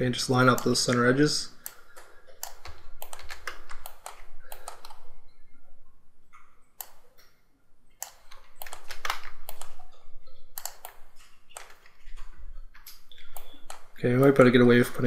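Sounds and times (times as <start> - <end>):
keyboard and mouse clicking: 0.4 - 5.1, 6.4 - 7.4, 8.0 - 14.4.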